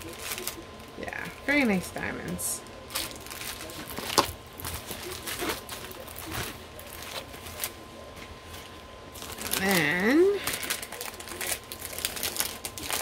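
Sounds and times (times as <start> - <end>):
plastic packaging crinkling: 0.0 - 1.8, 2.6 - 13.0.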